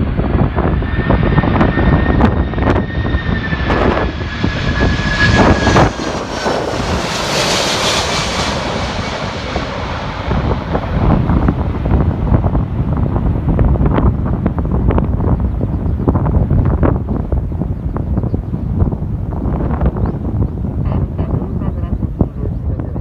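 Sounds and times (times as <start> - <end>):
airliner engine whine overhead: 0.0 - 23.0
wind buffeting microphone: 0.0 - 23.0.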